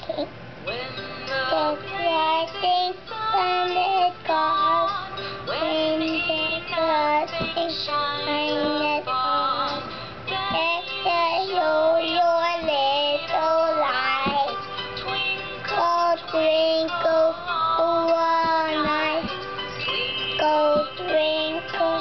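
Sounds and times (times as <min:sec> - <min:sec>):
child singing: 0:00.0 - 0:22.0.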